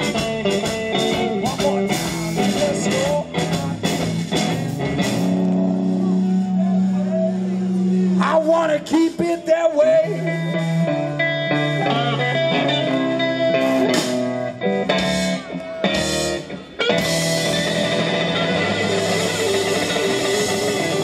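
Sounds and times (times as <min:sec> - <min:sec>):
electric guitar with bent notes: 0:00.0 - 0:21.0
live blues-rock band: 0:00.0 - 0:21.0.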